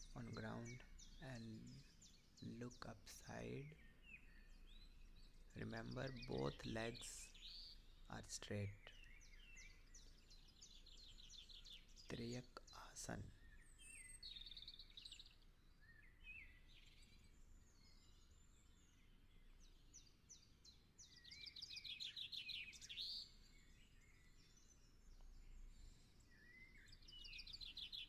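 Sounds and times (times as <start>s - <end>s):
small birds chirping and trilling: 0.0s - 28.0s.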